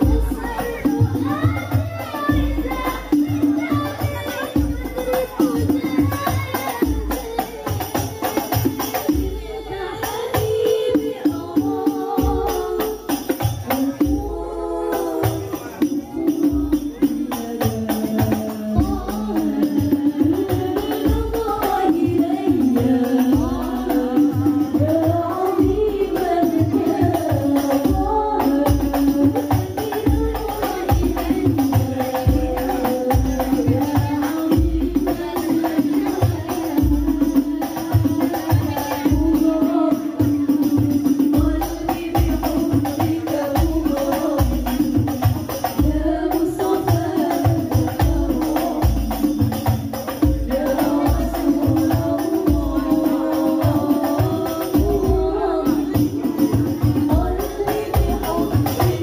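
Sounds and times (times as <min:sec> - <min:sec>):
low beat and percussion: 0:00.0 - 0:59.0.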